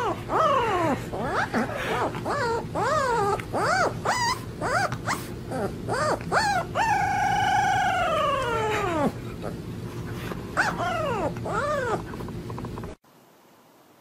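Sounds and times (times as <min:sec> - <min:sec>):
puppy howling: 0:00.0 - 0:09.6, 0:10.6 - 0:12.2.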